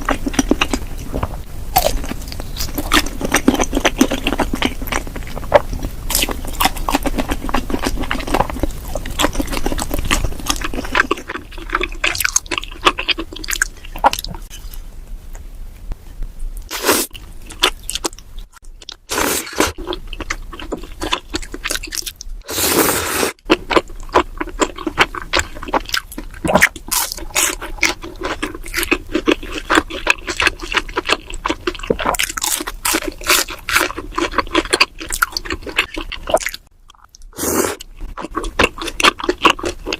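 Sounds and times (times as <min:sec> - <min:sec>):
chewing chewy food: 0:00.0 - 0:14.8, 0:16.7 - 0:22.5, 0:23.3 - 0:39.9.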